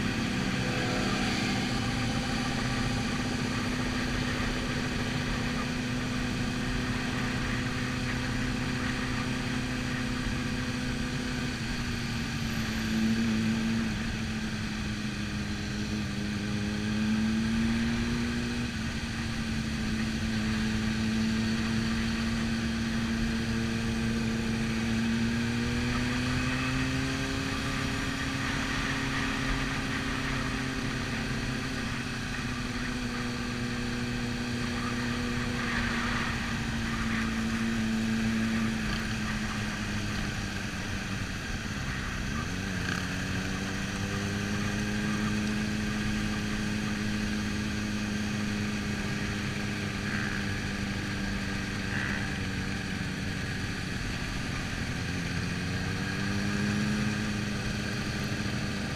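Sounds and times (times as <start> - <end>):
motorcycle engine at low revs: 0.0 - 58.9.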